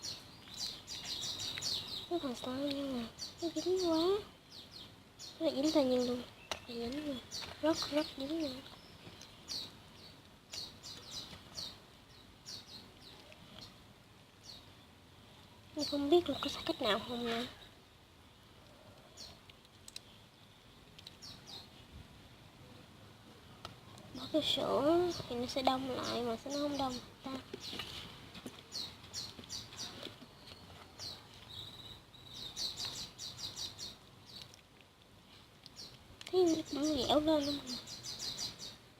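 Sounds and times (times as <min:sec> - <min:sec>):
faint birds chirping: 0:00.0 - 0:38.9.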